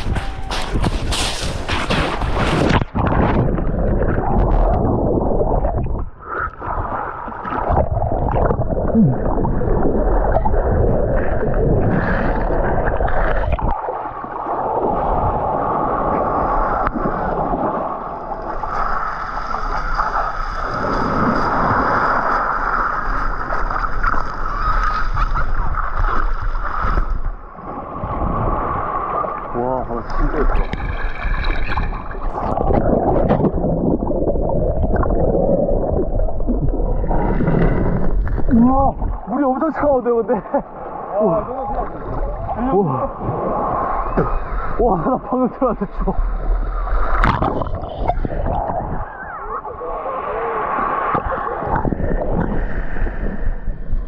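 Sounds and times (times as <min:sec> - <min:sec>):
sea water sloshing: 0:00.0 - 0:54.0
waves washing: 0:00.0 - 0:54.0.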